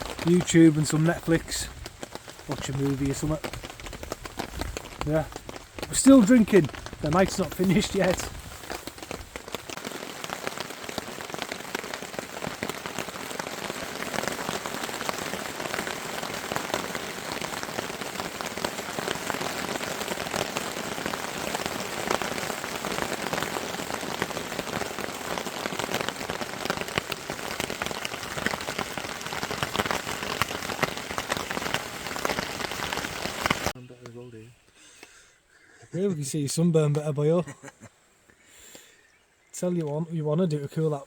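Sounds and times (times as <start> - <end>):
rain pattering on a tarp: 0.0 - 34.3.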